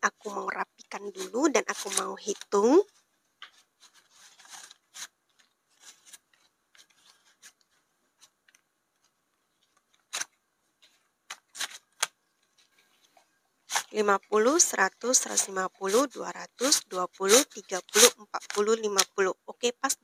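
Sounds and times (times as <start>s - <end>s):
banknotes rustling: 0.2s - 19.2s.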